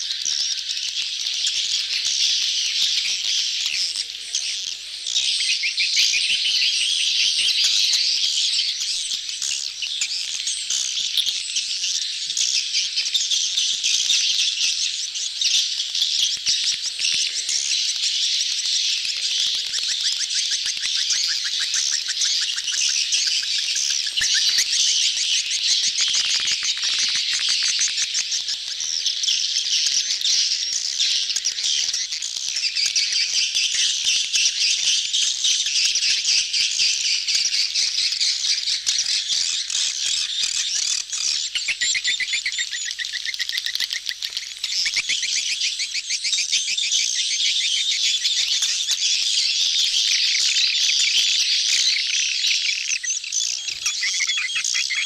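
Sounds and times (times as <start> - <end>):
swiftlets chirping and twittering: 0.0 - 55.0.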